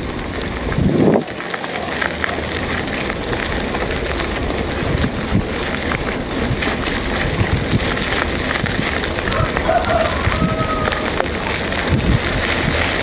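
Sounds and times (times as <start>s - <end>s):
tyres crunching on gravel: 0.0s - 13.0s
wind rush on microphone: 0.0s - 13.0s.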